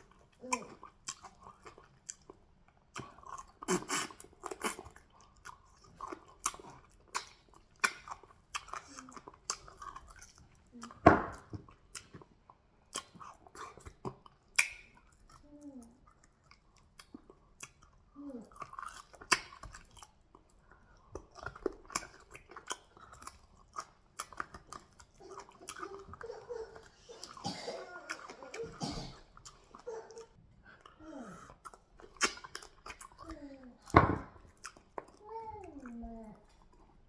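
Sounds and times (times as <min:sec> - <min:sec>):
chewing and mouth smacking: 0:00.0 - 0:37.0.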